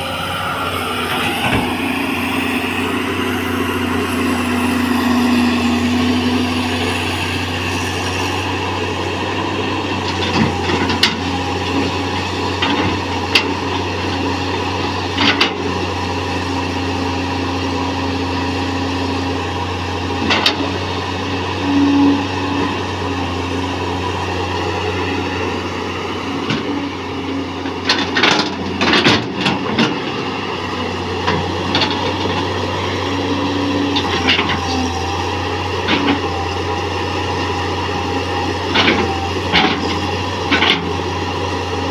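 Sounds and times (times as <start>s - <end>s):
excavator diesel engine: 0.0s - 41.9s.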